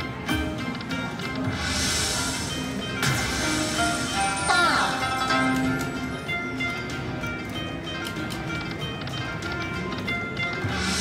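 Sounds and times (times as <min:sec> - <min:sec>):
slot machine game music: 0:00.0 - 0:11.0.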